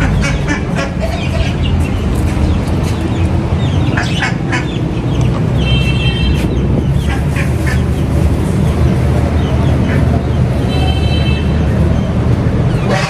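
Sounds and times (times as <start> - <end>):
chickens clucking: 0.0 - 10.7, 11.5 - 13.0.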